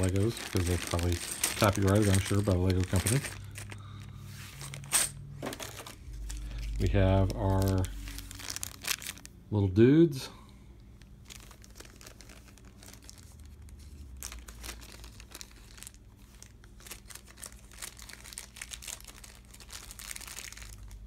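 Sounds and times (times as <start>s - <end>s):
plastic bag crinkling: 0.0s - 9.4s, 11.0s - 21.0s.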